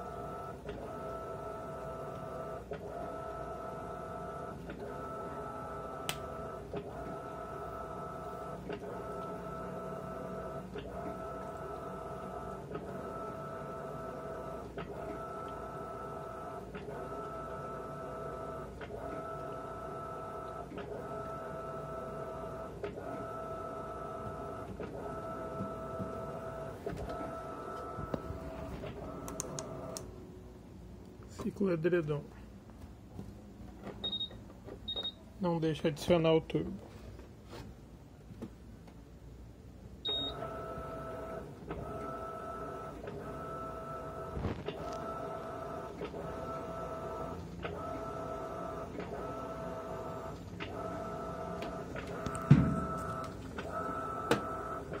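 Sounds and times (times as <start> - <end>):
washing machine motor whine: 0.0 - 30.7, 40.0 - 55.0.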